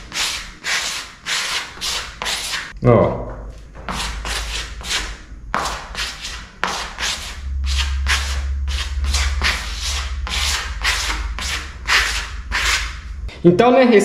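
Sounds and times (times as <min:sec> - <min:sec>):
trowel scraping cement on wall: 0:00.0 - 0:02.7, 0:03.8 - 0:13.0.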